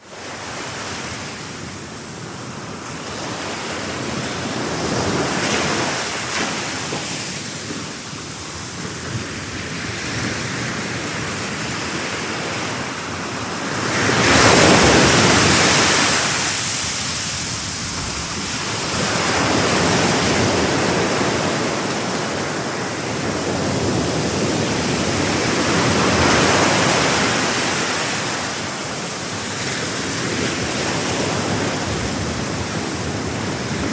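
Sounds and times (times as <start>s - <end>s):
sea waves breaking on shore: 0.0s - 33.9s.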